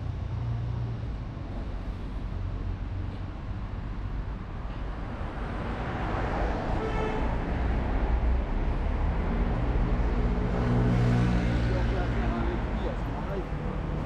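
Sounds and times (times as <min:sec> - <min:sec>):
traffic rumble of engines and tyres: 0:00.0 - 0:14.0.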